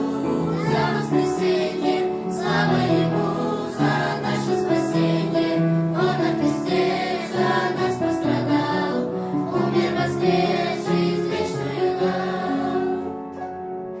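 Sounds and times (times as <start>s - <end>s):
choir singing: 0.0s - 13.5s
musical accompaniment: 0.0s - 14.0s.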